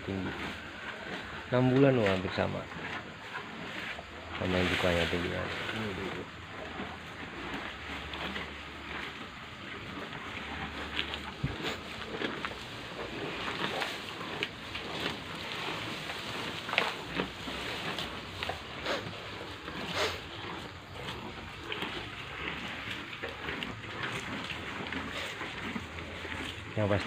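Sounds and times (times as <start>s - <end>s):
cattle eating grass: 0.0s - 27.0s.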